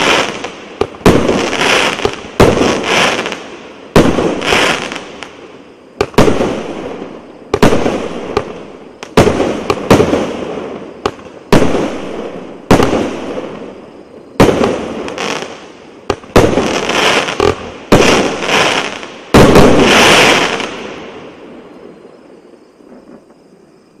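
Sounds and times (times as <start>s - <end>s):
fireworks hiss: 0.0s - 13.8s, 14.4s - 21.6s.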